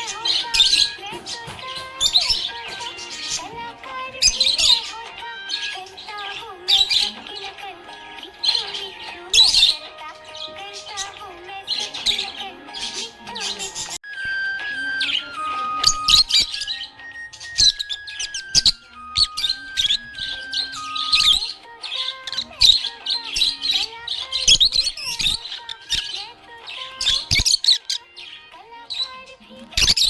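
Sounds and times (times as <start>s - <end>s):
background music: 0.0s - 30.0s
budgerigar chirping and warbling: 0.0s - 30.0s.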